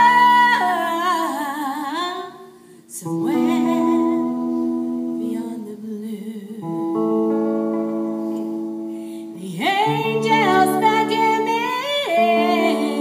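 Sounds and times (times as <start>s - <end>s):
woman singing gospel song: 0.0s - 6.9s, 9.4s - 13.0s.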